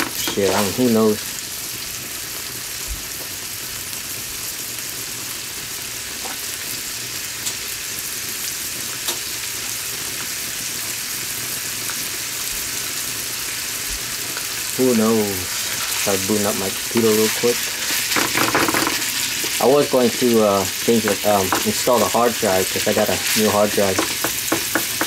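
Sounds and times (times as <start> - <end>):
meat sizzling in a skillet: 0.0 - 25.0.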